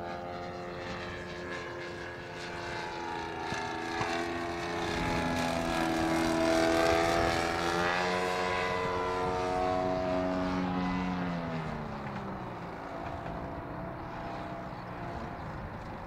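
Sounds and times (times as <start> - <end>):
model plane propeller droning: 0.0 - 16.0.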